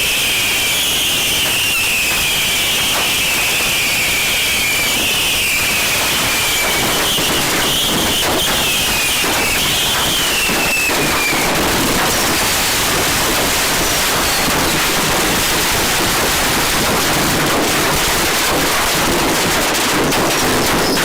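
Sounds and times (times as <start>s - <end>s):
falling firework whistle: 0.0s - 21.0s
fireworks hiss and crackle: 0.0s - 21.0s.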